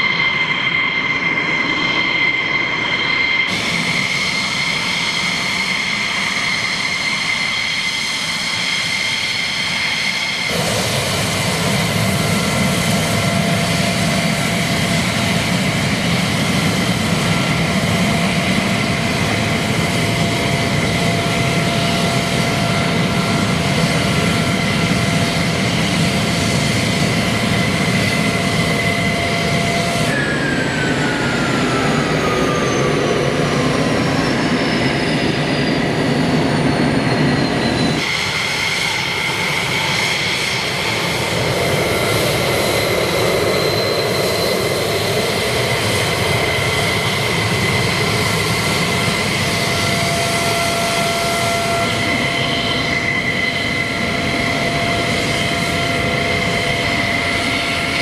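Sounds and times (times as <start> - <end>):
jet engine whine: 0.0 - 58.0
rush of jet exhaust: 3.5 - 57.9.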